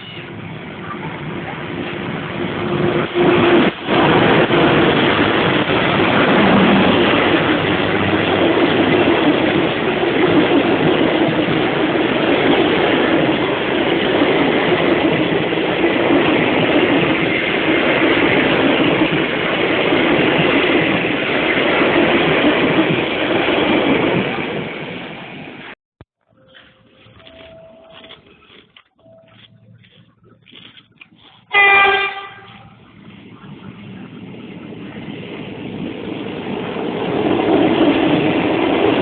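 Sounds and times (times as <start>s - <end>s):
train running close by: 0.0s - 25.7s, 29.0s - 39.0s.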